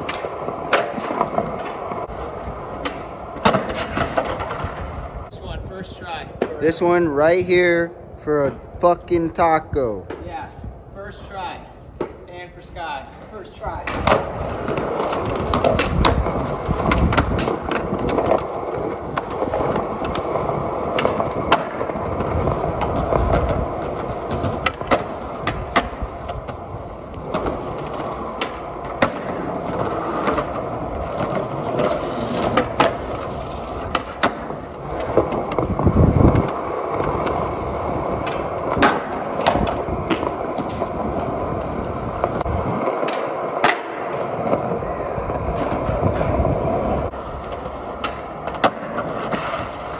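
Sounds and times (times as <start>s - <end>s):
skateboard clacks: 0.0s - 6.8s, 11.3s - 49.9s
skateboard wheels rolling on concrete: 0.0s - 49.9s.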